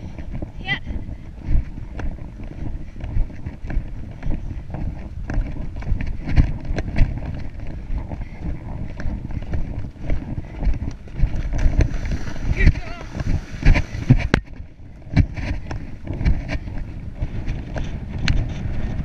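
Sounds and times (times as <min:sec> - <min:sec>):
horse hoofbeats on grass: 0:00.0 - 0:19.0.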